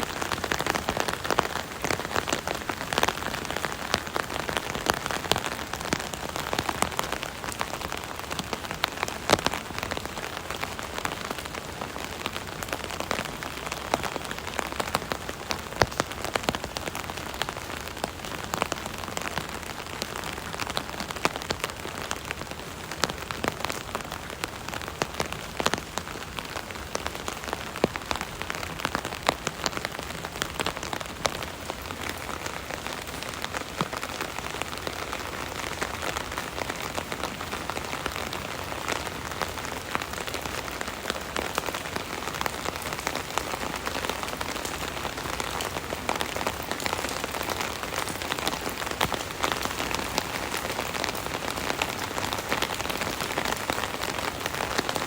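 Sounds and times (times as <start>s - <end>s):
rain pattering on an umbrella: 0.0s - 55.0s.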